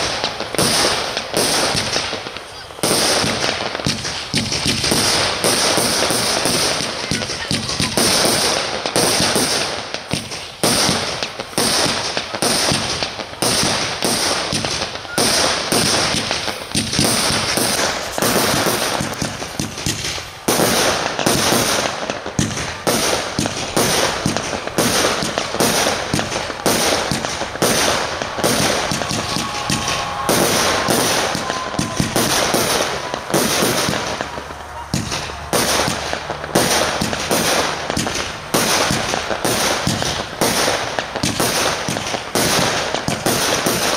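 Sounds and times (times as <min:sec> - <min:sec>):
fireworks bangs: 0:00.0 - 0:43.9
fireworks crackle and hiss: 0:00.0 - 0:43.9.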